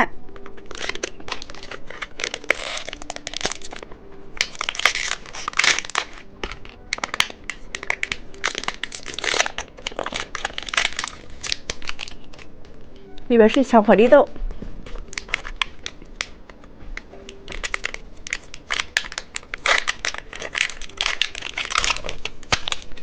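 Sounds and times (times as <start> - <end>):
plastic wrapper crinkling: 0.0 - 14.2, 14.8 - 23.0
packaging being torn open: 0.2 - 12.5, 14.9 - 23.0.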